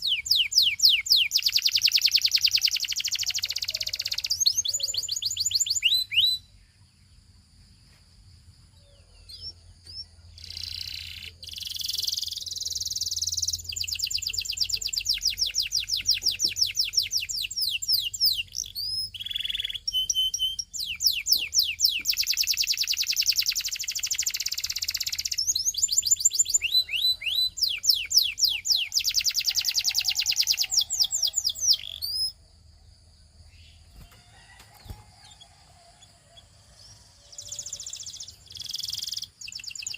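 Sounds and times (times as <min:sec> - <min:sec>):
canary singing trills: 0:00.0 - 0:07.4, 0:08.7 - 0:39.9.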